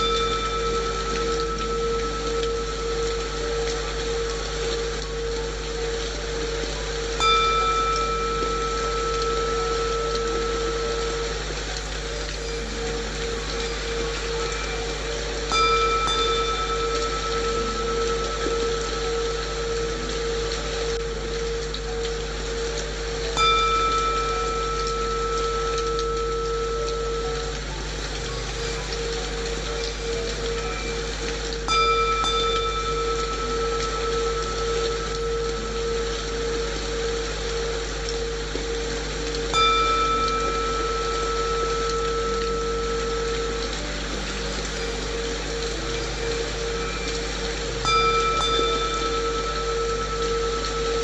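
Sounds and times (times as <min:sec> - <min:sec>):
low bowl tone: 0:00.0 - 0:51.0
rain white noise: 0:00.0 - 0:51.0
singing bowl struck: 0:00.0 - 0:51.0.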